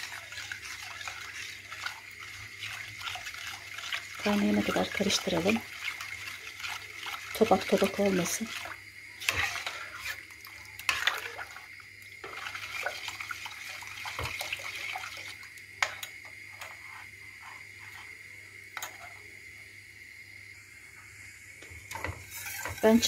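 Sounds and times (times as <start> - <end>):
liquid swishing in a pot: 0.0 - 19.4, 22.0 - 23.0.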